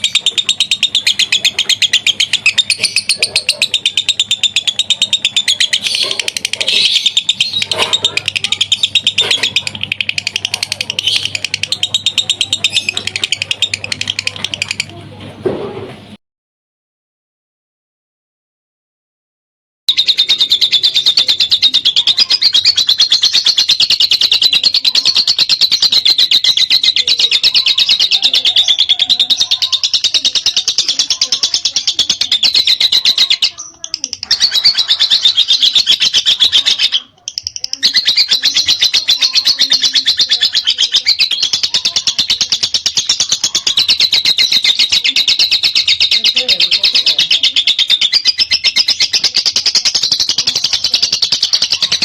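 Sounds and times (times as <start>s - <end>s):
lovebird shrill chatter: 0.0s - 14.9s, 19.9s - 52.0s.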